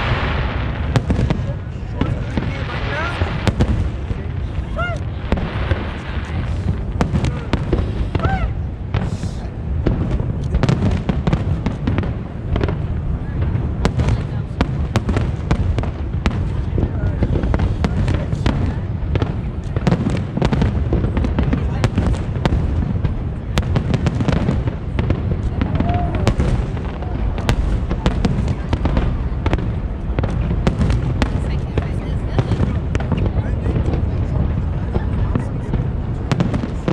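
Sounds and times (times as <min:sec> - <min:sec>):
fireworks bangs and cracks: 0:00.0 - 0:36.9
low rumble of booms: 0:00.0 - 0:36.9.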